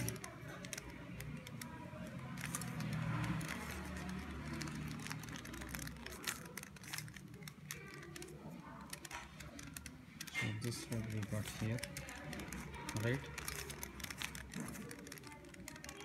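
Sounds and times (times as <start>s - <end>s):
plastic puzzle cube clicking: 0.0s - 16.0s.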